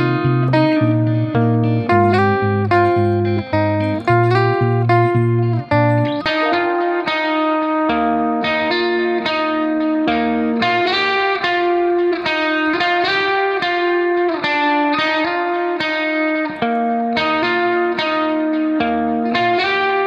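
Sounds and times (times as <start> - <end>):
guitar plucked notes: 0.0 - 20.0.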